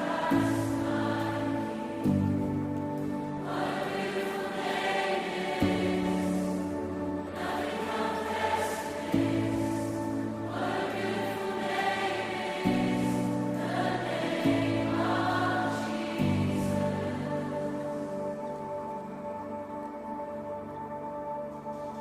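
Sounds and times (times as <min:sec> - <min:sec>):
choir singing: 0:00.0 - 0:19.6.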